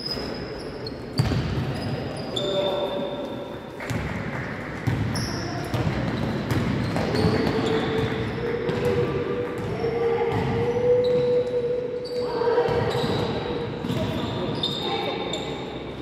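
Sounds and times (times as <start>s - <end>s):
sneakers squeaking on floor: 0.0s - 3.2s, 4.8s - 16.0s
echoing hall noise: 0.0s - 16.0s.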